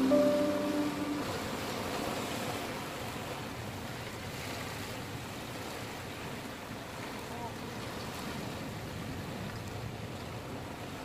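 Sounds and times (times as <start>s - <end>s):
waves breaking over rocks: 1.2s - 11.0s.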